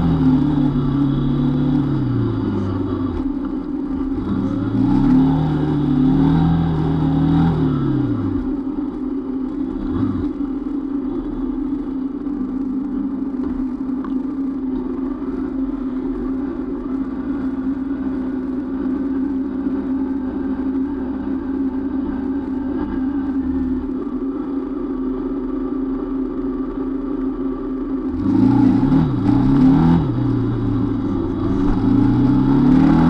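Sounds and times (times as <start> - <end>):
motorcycle engine slowing and idling: 0.0 - 33.0.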